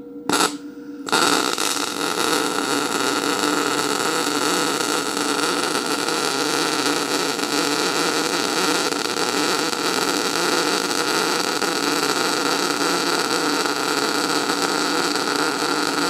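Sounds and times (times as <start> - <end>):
welding arc hissing and crackling: 0.3 - 16.0.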